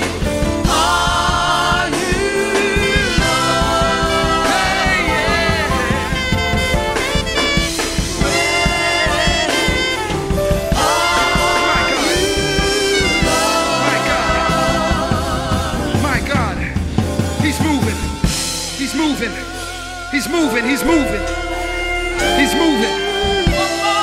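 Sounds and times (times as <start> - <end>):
bass guitar: 0.0 - 24.0
gospel singing: 0.0 - 24.0
keyboard: 0.0 - 24.0.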